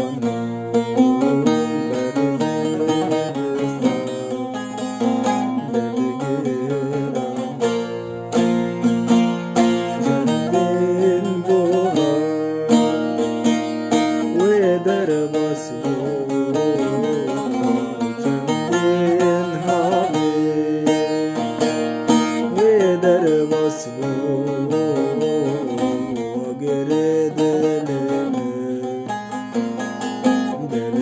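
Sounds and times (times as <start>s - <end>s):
plucked string instrument melody: 0.0s - 31.0s.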